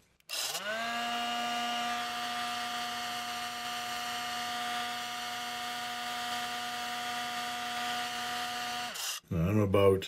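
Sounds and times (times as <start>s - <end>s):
heat gun fan motor humming: 0.3s - 9.2s.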